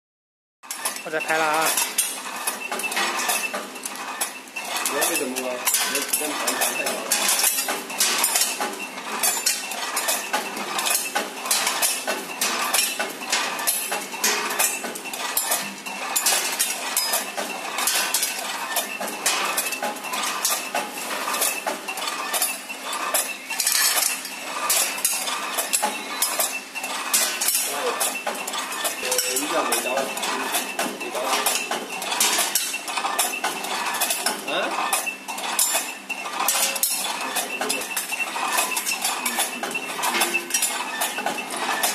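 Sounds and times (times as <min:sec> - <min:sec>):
metallic clatter of candies in chutes: 0:00.7 - 0:41.9.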